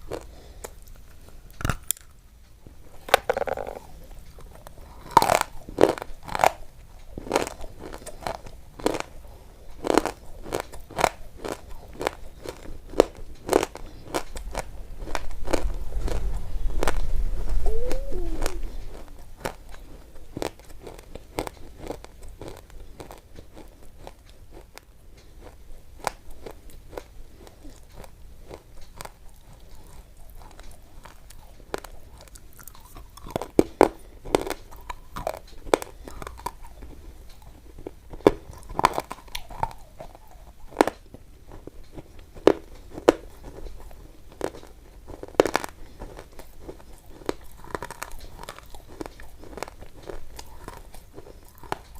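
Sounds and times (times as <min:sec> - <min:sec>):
crisp crunches and clicks: 0:03.0 - 0:51.9.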